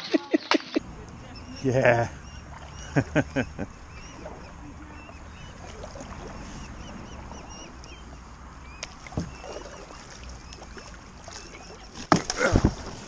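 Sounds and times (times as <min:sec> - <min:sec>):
kayak paddling: 0:00.0 - 0:13.0
small bird chirping: 0:01.2 - 0:12.0.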